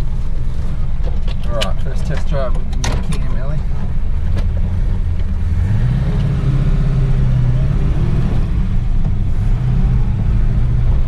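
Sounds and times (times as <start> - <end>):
car engine pulling away: 0.0 - 11.0.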